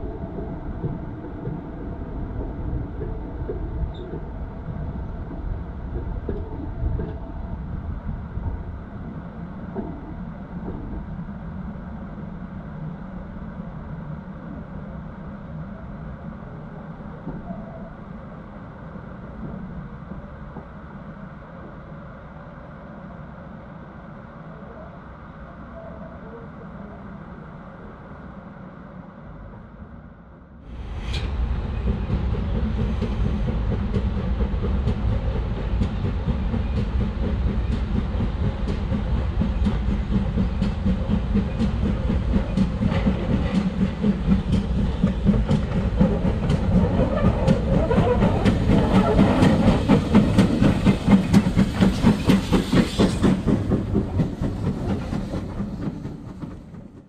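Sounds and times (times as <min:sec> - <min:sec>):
train clickety-clack on track: 0:00.0 - 0:22.0, 0:30.7 - 0:57.0.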